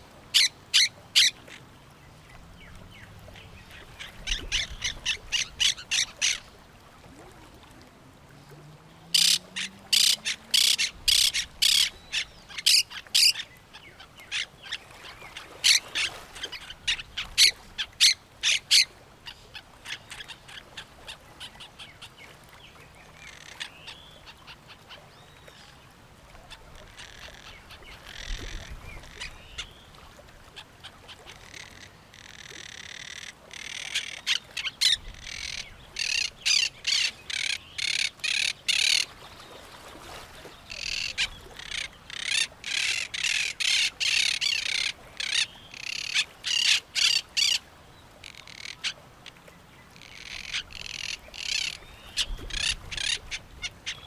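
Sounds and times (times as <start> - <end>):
birds calling: 0.3 - 1.6, 2.2 - 6.6, 9.0 - 25.8, 26.5 - 54.0.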